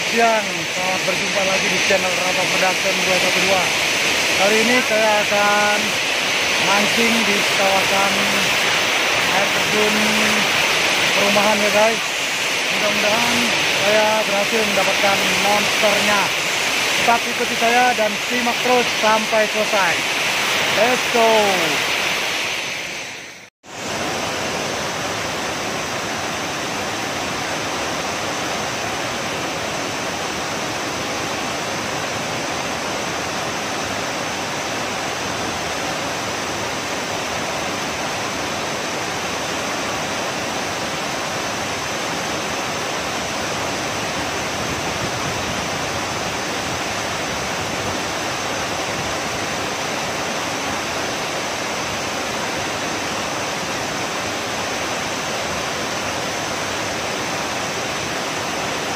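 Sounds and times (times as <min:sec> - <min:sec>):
waterfall rushing into pool: 0:00.0 - 0:58.9.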